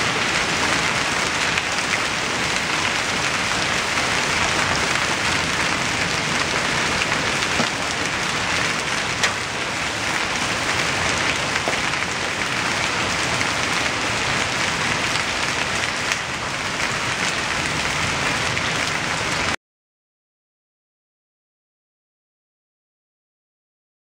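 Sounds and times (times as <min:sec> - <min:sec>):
rain and hail pelting ground: 0:00.0 - 0:19.6.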